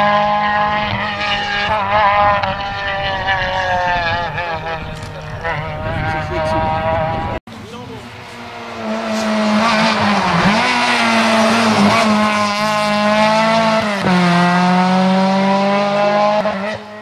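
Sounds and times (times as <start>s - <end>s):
race car engine at high revs: 0.0s - 17.0s.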